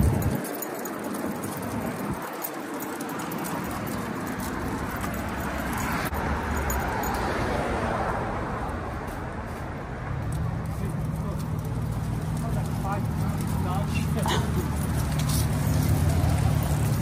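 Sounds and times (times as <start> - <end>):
dogs' footfalls on concrete: 0.0 - 7.2, 9.0 - 17.0
street traffic passing: 0.0 - 17.0.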